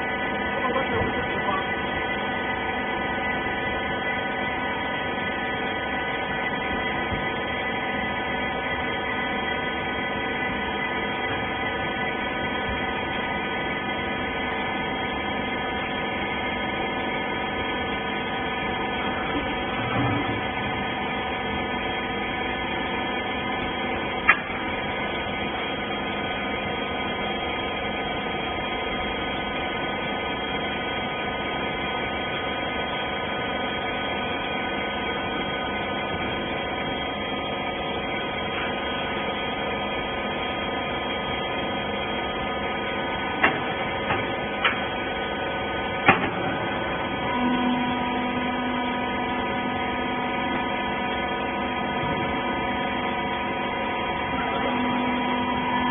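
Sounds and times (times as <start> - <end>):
hydraulic pump motor hum: 0.0 - 55.9.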